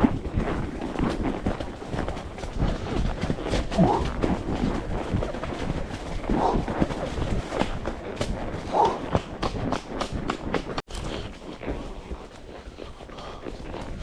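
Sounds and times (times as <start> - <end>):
horse hooves thudding: 0.0 - 14.0.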